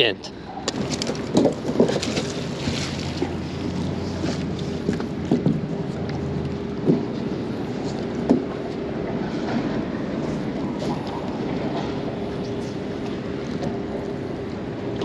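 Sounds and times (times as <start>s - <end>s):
steady mechanical hum: 0.0s - 15.0s
wind: 0.0s - 15.0s
water noise: 0.1s - 15.0s.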